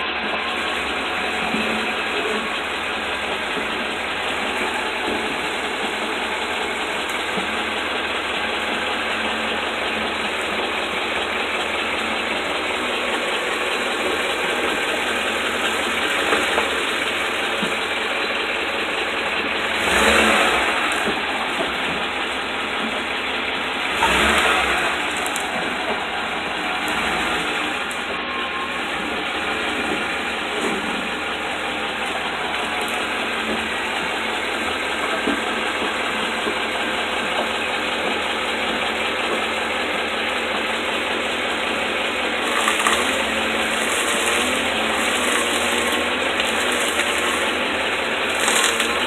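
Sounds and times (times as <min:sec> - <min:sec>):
pickup truck engine running: 0:00.0 - 0:49.0.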